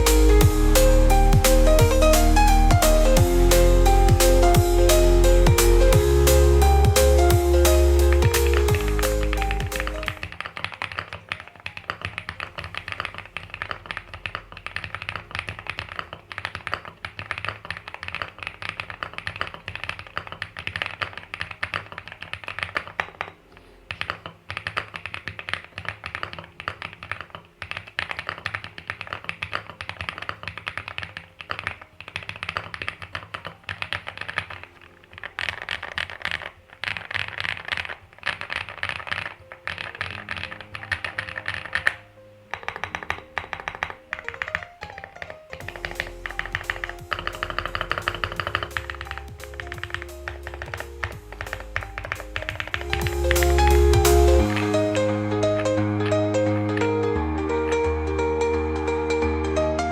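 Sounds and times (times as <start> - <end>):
mechanical keyboard typing: 7.9 - 57.9.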